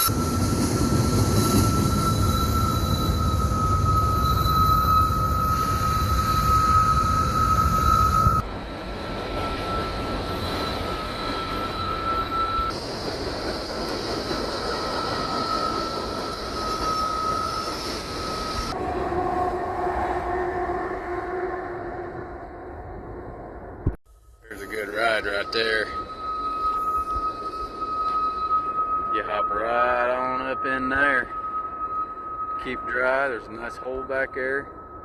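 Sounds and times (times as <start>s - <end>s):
high-pitched wheel squeal: 0.0s - 8.4s, 9.0s - 12.8s, 13.9s - 21.9s, 24.5s - 35.0s
rumble of train wheels: 0.0s - 35.0s.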